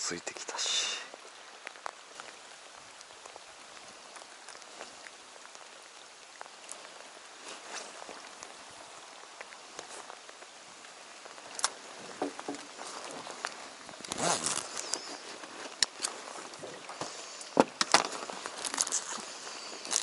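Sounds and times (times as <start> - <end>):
light rain pattering: 0.0 - 20.0
rain jacket rustling: 1.6 - 20.0.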